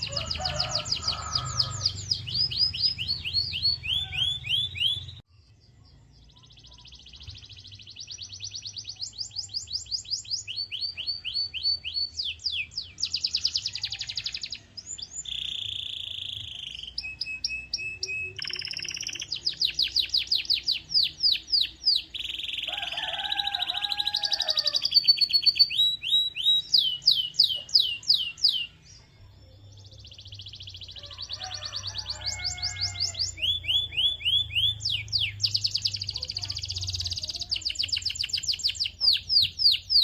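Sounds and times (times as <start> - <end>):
canary singing: 0.0 - 5.3, 6.2 - 40.0.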